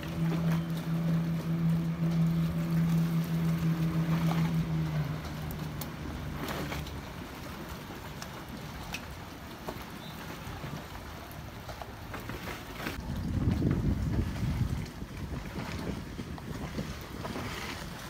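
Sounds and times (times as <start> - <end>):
speedboat engine drone: 0.0 - 18.0
wind: 0.0 - 18.0.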